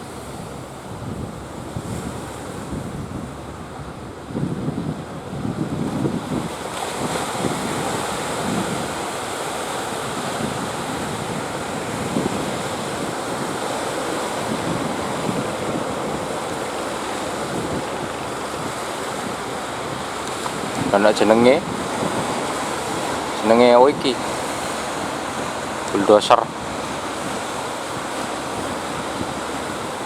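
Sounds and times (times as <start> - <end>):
ocean surf: 0.0 - 30.0
wind buffeting microphone: 0.0 - 30.0.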